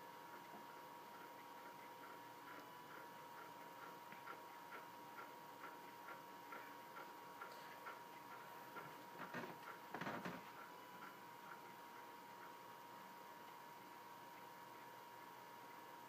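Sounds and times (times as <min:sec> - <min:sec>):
faint high hum: 0:00.0 - 0:16.0.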